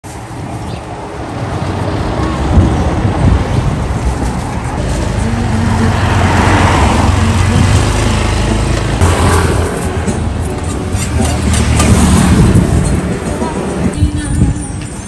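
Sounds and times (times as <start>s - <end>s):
vehicles passing on street: 0.0s - 15.0s
low engine hum: 1.2s - 14.1s.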